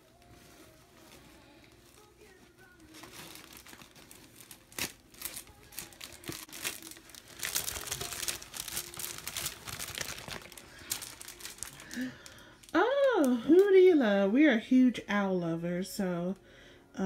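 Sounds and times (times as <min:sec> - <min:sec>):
plastic packaging crinkling: 0:00.0 - 0:13.9.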